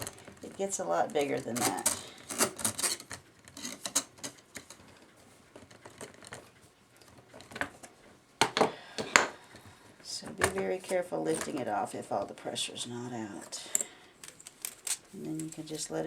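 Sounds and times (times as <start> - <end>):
clock movement clicking and clattering: 0.0 - 16.0.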